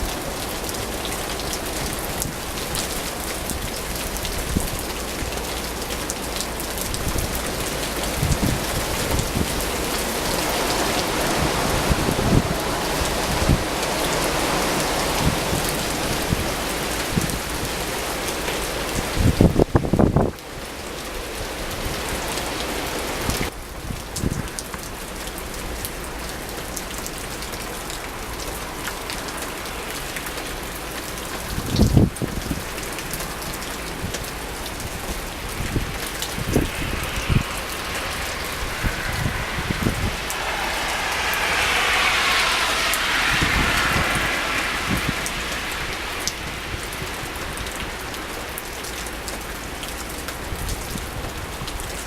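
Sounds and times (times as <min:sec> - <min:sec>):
wind buffeting microphone: 0:00.0 - 0:20.6, 0:21.2 - 0:52.0
gusty wind: 0:00.0 - 0:52.0
rain falling: 0:00.0 - 0:52.0.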